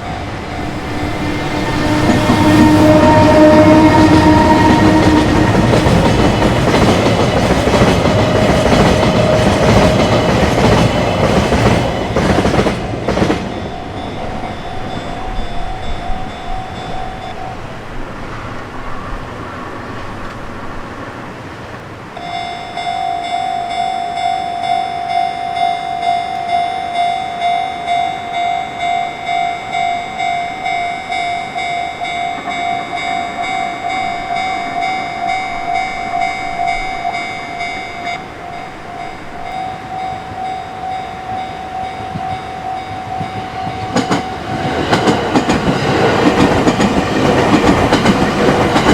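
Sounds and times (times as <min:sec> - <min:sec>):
level crossing warning bell: 0:00.0 - 0:18.0, 0:22.2 - 0:48.9
train passing: 0:00.0 - 0:48.9.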